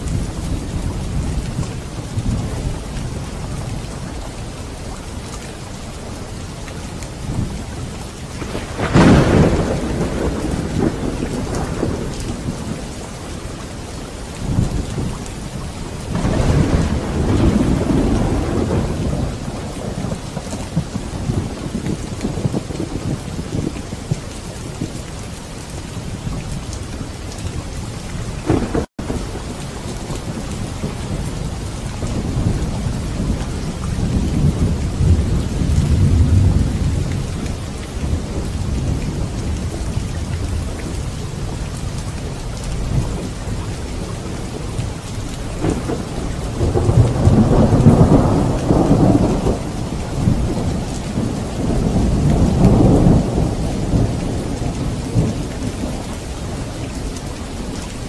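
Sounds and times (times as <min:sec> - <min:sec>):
steady rain: 0:00.0 - 0:58.0
low rolling thunder: 0:07.2 - 0:13.6, 0:14.4 - 0:24.2, 0:27.0 - 0:57.8.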